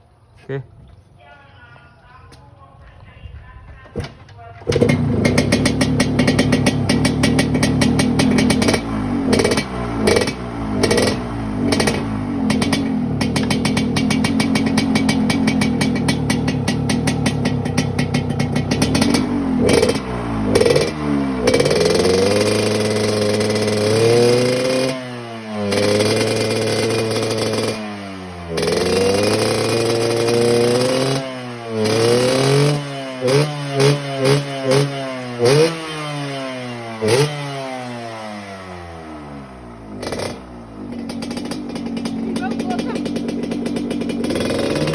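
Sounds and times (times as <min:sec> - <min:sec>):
two-stroke motorcycle engine revving: 0:04.0 - 0:44.9.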